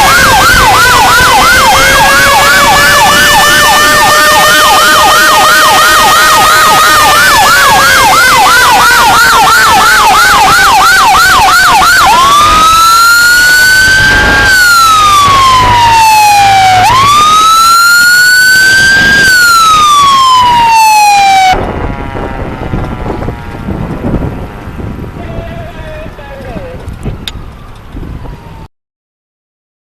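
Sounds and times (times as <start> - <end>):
second siren tone sliding down: 0.0 - 22.6, 27.0 - 28.7
fire truck siren: 0.0 - 28.7.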